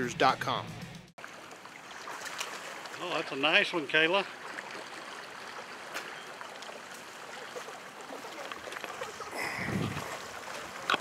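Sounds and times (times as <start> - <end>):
water sloshing from wading: 1.2 - 11.0.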